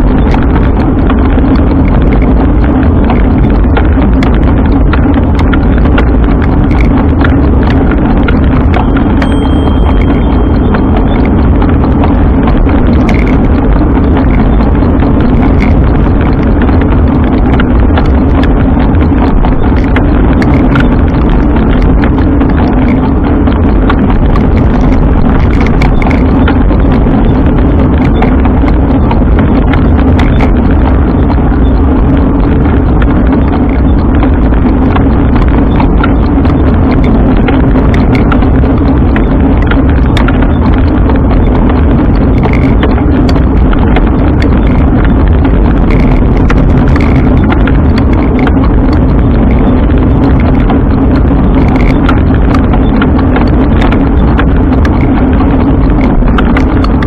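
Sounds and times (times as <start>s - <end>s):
bike rumbling on the move: 0.0s - 57.0s
small rattles and clicks: 0.0s - 57.0s.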